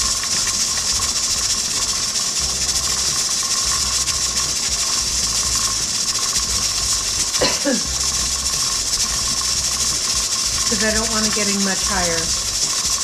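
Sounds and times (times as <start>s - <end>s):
pressure canner regulator rattling: 0.0s - 13.0s
steam hissing: 0.0s - 13.0s.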